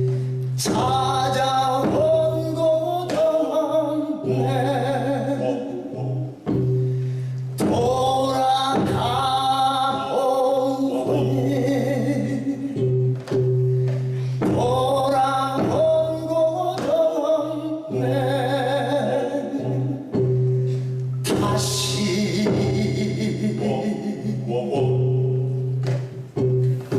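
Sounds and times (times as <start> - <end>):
man singing: 0.6 - 6.7, 7.6 - 13.0, 14.3 - 20.3, 21.2 - 25.9.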